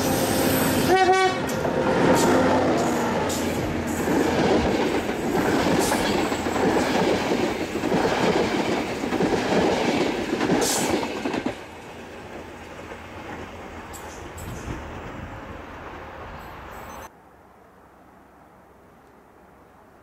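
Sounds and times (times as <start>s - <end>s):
train wheels rumbling on rails: 0.0s - 17.1s.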